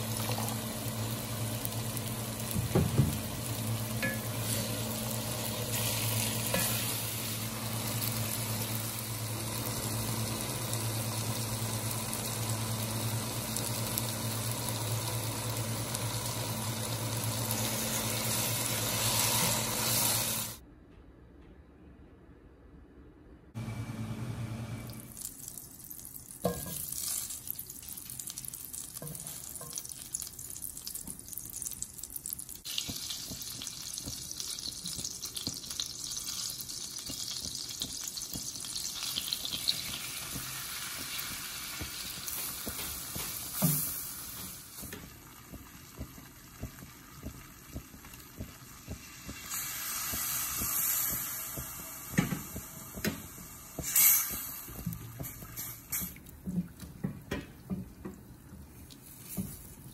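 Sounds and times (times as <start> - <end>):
butter sizzling in pan: 0.0 - 20.6, 25.0 - 56.6.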